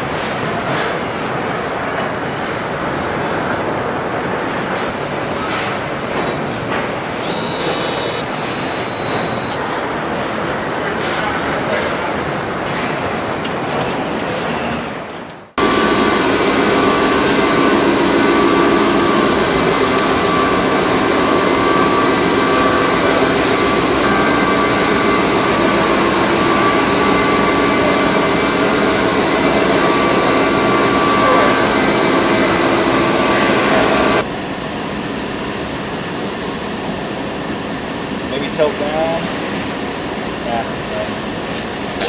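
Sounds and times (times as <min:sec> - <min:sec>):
factory machinery and ventilation: 0:00.0 - 0:42.0.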